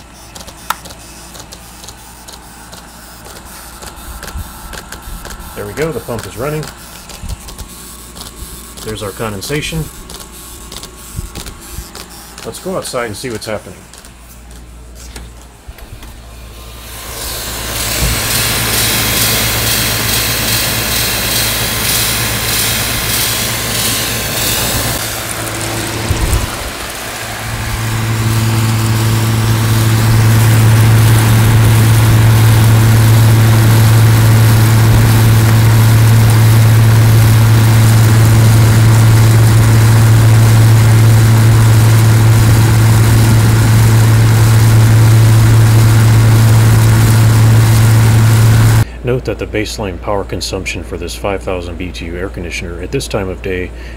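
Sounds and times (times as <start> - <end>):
air conditioner fan rushing: 0.0 - 53.9
loud steady low hum: 0.0 - 53.9.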